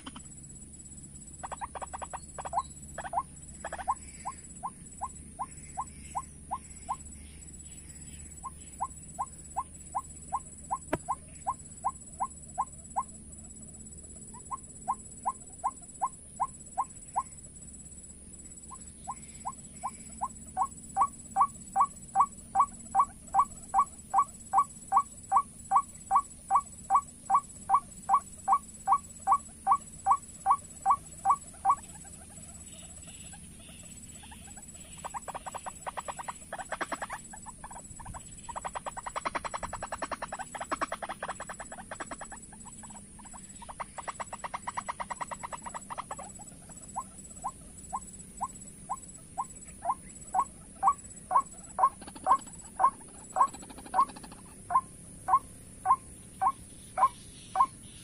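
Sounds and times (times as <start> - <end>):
harsh bird chattering: 0.0 - 17.4, 18.5 - 58.0
bird calling repeated notes: 1.2 - 17.4, 18.6 - 58.0.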